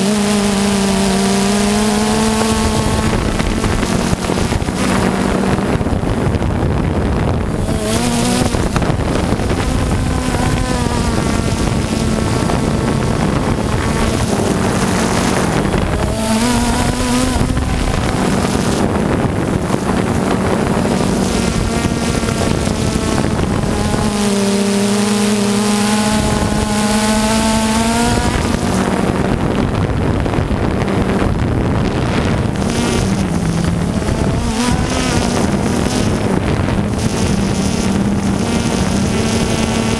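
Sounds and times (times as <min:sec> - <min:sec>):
electric motors and propellers humming: 0:00.0 - 0:39.9
wind rushing across microphone: 0:00.0 - 0:39.9.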